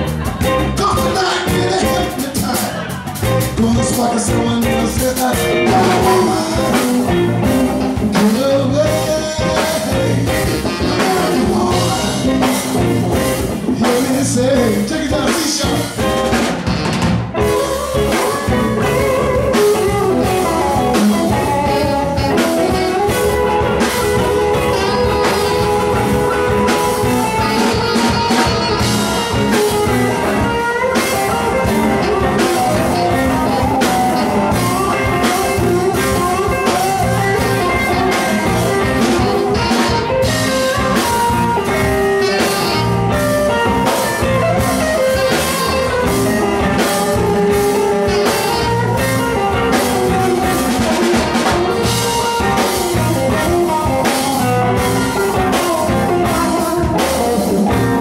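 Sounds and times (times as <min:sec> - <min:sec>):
live blues-rock band playing: 0:00.0 - 0:58.0.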